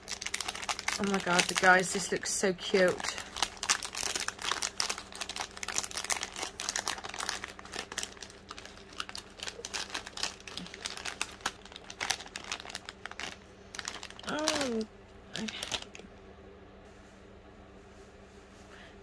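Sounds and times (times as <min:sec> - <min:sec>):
plastic pouch crinkling: 0:00.0 - 0:16.1.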